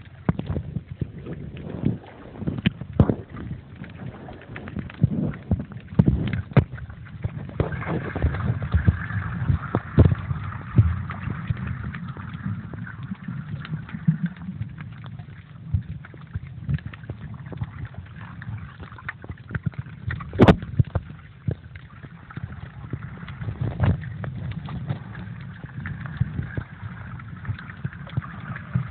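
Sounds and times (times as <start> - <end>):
water sloshing: 0.0 - 28.9.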